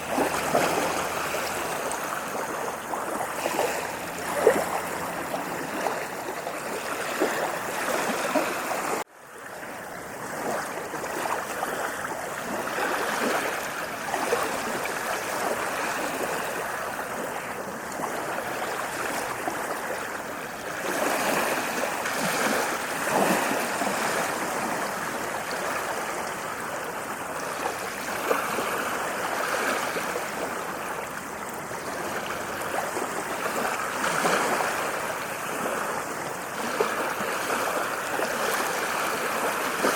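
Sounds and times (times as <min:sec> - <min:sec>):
waves washing onto sandy beach: 0:00.0 - 0:39.9.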